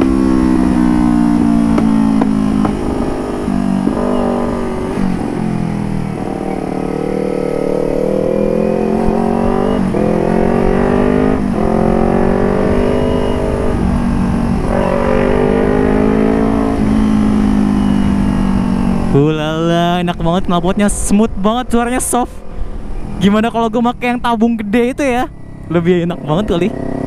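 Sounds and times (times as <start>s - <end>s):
motorcycle engine accelerating: 0.0s - 20.3s, 21.8s - 27.0s.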